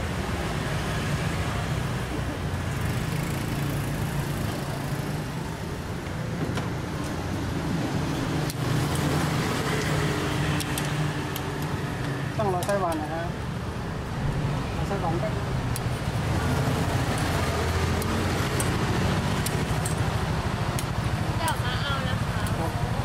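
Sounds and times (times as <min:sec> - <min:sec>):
traffic engine hum: 0:00.0 - 0:23.0.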